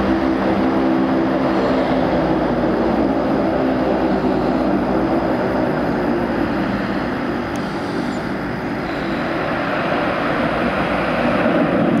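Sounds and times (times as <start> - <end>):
turboprop propeller drone: 0.0 - 12.0.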